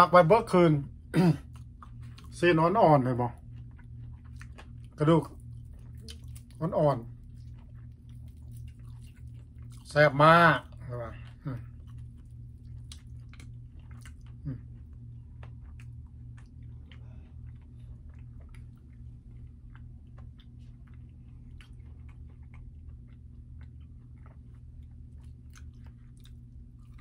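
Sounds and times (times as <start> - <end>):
steady low hum: 0.0 - 27.0
chewing crunchy chicken: 0.4 - 27.0.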